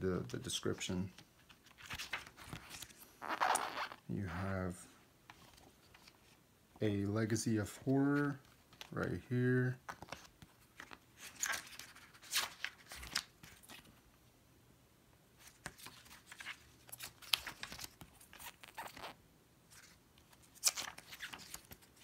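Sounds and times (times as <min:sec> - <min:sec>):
booklet pages turning: 0:00.2 - 0:04.5, 0:05.3 - 0:06.4, 0:07.7 - 0:14.0, 0:15.4 - 0:22.0.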